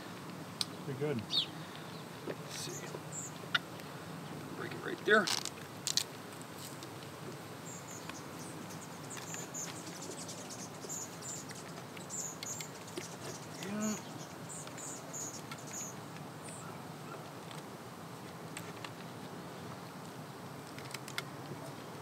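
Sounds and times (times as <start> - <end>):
honeybees humming: 0.0 - 18.5
comb clicks and crackles: 3.3 - 19.4, 20.0 - 22.0.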